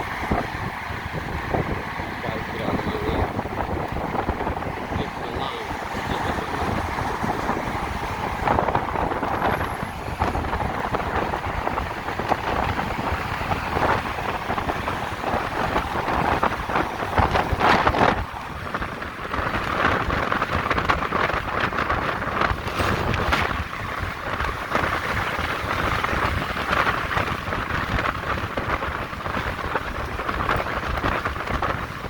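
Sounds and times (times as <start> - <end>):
road noise: 0.0 - 32.0
wind buffeting microphone: 0.0 - 32.0.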